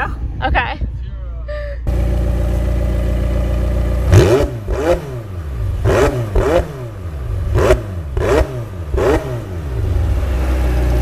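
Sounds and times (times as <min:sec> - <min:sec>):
car engine idling: 0:01.0 - 0:11.0
car engine revving: 0:01.9 - 0:11.0.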